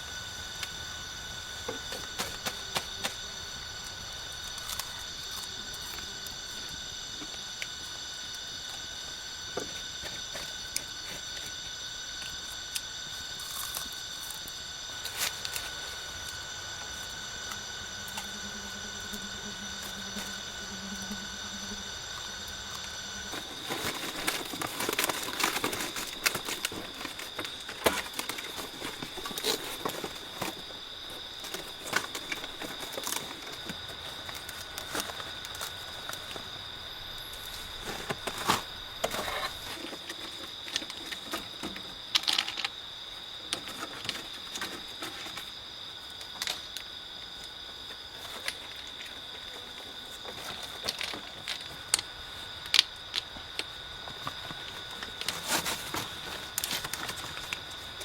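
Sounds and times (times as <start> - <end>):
insects droning: 0.0 - 58.0
crackling and rustling: 1.4 - 8.8, 9.5 - 58.0.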